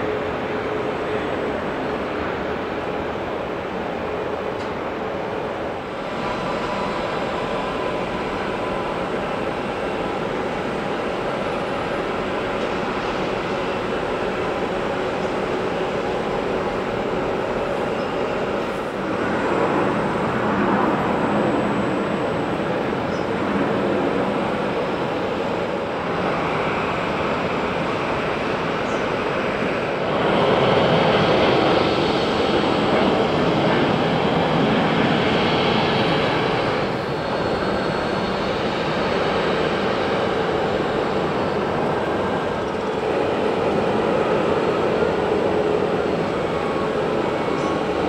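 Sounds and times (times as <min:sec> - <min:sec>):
jet engine rush and whine: 0:00.0 - 0:48.0.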